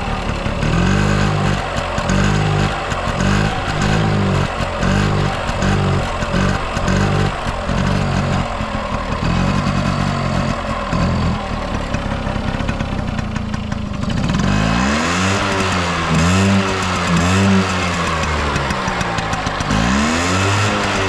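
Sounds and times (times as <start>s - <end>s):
moped engine revving: 0.0s - 21.0s.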